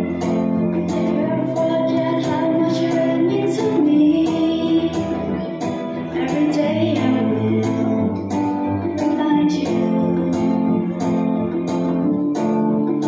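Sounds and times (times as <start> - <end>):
girl singing a slow ballad: 0.0 - 11.4
strummed acoustic guitar: 0.0 - 13.0.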